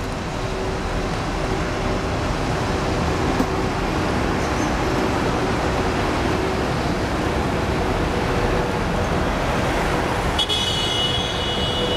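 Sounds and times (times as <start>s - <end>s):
train wheels rumbling on rails: 0.0s - 10.4s.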